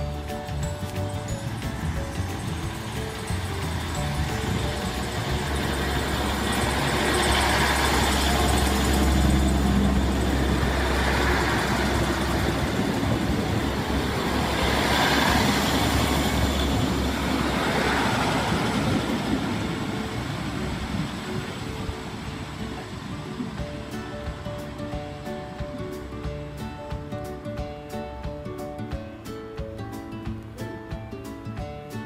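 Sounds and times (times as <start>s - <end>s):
train diesel engine drone: 0.0s - 28.2s
train wheel and rail noise: 0.0s - 32.0s.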